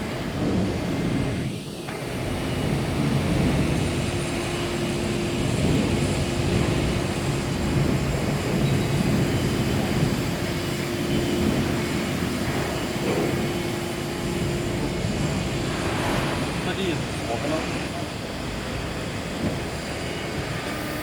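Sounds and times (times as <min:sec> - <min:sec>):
hydraulic drive humming: 0:00.0 - 0:21.0.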